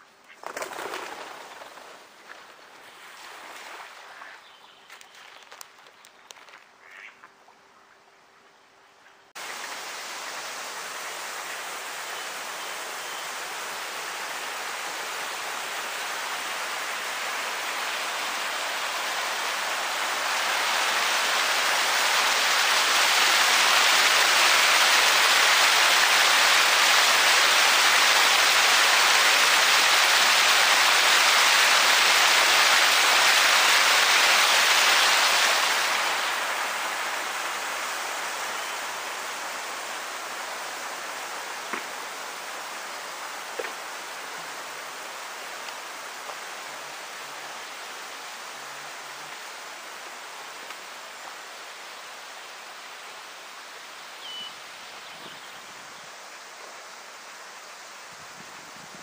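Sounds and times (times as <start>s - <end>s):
rushing water hiss: 0.0s - 7.1s, 9.3s - 59.0s.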